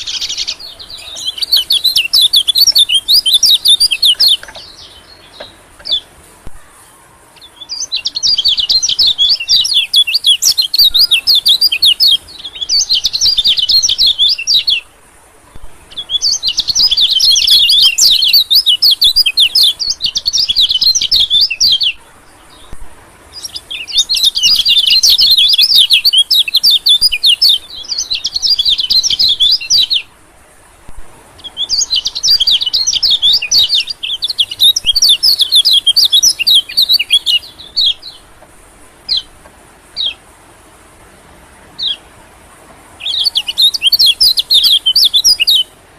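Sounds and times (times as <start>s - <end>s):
high twittering bird chirps: 0.0s - 14.9s, 15.5s - 30.1s, 31.4s - 38.3s, 39.1s - 39.4s, 40.0s - 40.2s, 41.8s - 42.0s, 43.0s - 45.8s.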